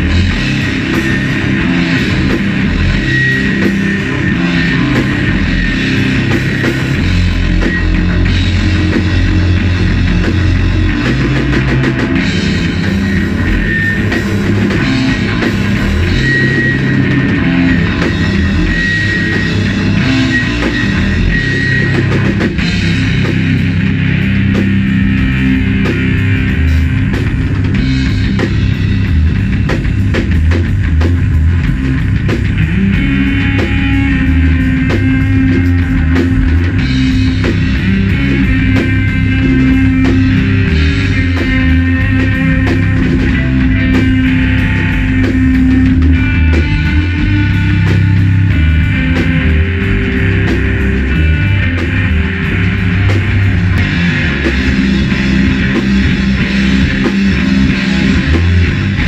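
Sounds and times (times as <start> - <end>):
distorted electric guitar riffing: 0.0 - 59.0
drum kit with cymbals: 0.0 - 59.0.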